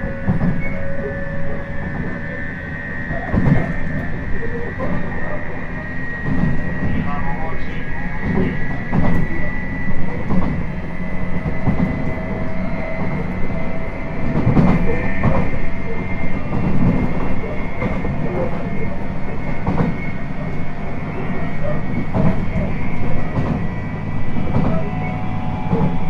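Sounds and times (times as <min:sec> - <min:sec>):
train motor high whine: 0:00.0 - 0:26.0.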